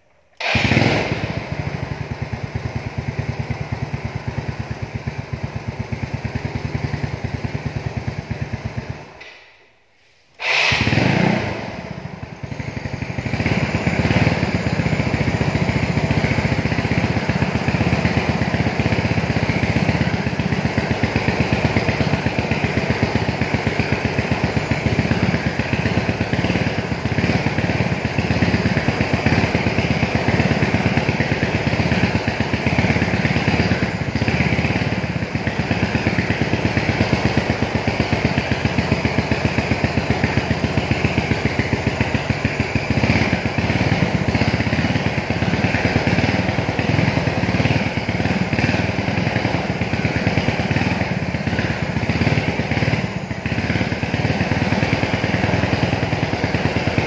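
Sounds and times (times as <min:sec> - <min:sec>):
motor scooter engine running: 0:00.4 - 0:09.2, 0:10.4 - 0:57.0.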